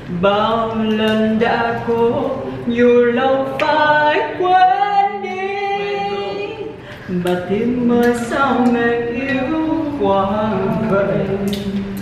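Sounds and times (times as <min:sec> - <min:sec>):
group singing birthday song: 0:00.1 - 0:12.0.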